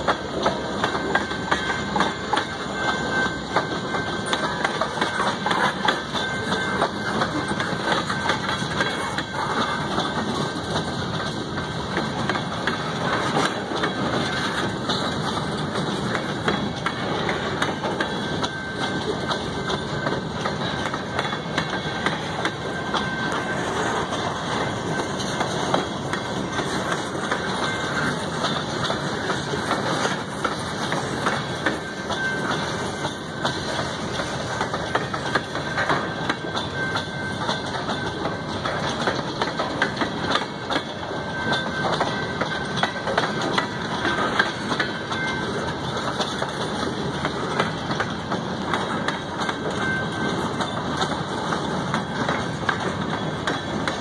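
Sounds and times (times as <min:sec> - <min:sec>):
freight train wheels rumbling: 0:00.0 - 0:54.0
rail clicks and knocks: 0:00.0 - 0:54.0.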